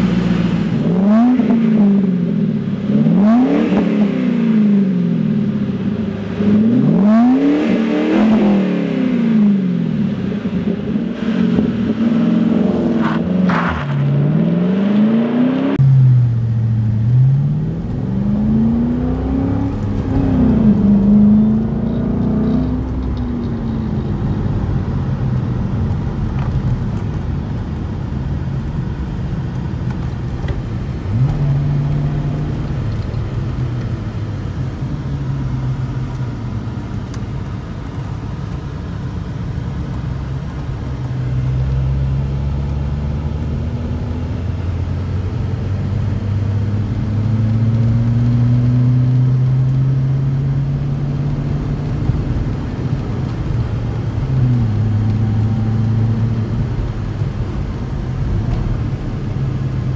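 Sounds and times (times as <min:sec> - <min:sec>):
car engine revving and droning: 0:00.0 - 0:59.9.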